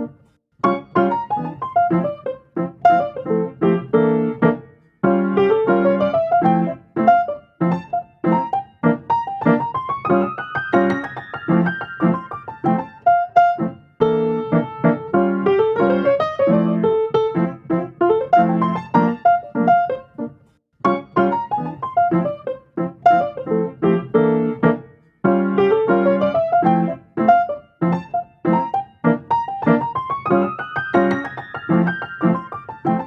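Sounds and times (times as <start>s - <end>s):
piano playing lively melody: 0.0s - 33.0s.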